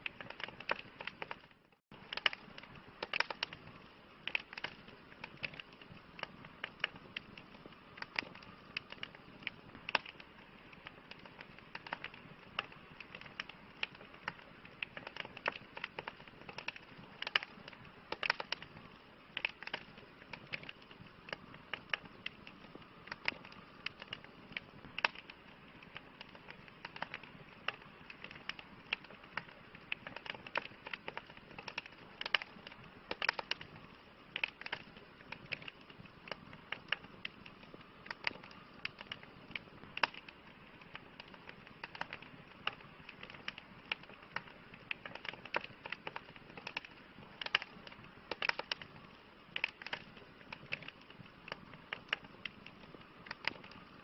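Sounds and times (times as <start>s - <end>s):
burning wood crackling and popping: 0.0s - 54.0s
hiss of flames: 0.0s - 54.0s.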